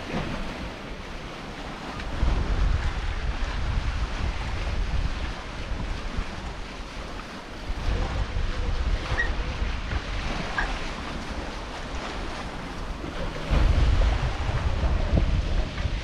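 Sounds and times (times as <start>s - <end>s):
sea wash around boat: 0.0s - 16.0s
wind rumbling on microphone: 0.0s - 16.0s.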